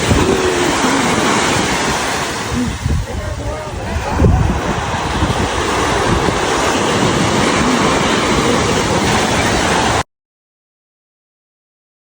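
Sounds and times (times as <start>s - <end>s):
ocean surf rushing: 0.0s - 10.0s
wind on microphone: 0.0s - 10.0s.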